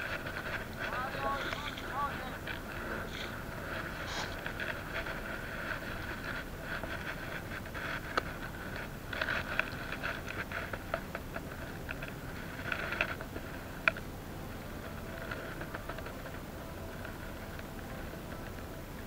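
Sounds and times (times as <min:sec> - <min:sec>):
low steady rumble: 0:00.0 - 0:19.0
rope rustling and clicking: 0:00.0 - 0:19.0.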